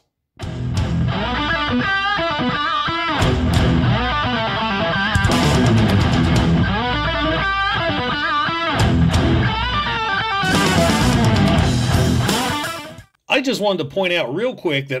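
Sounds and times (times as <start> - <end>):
rock electric guitar music: 0.4 - 13.1.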